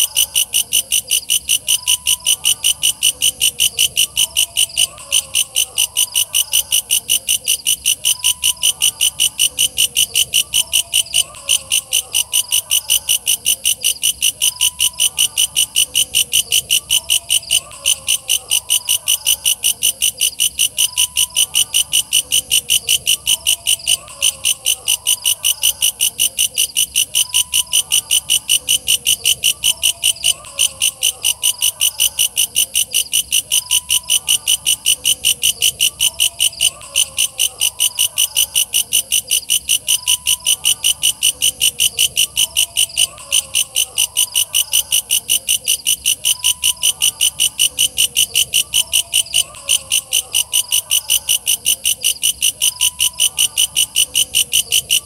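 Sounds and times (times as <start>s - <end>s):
fainter lower insect calls: 0.0s - 55.0s.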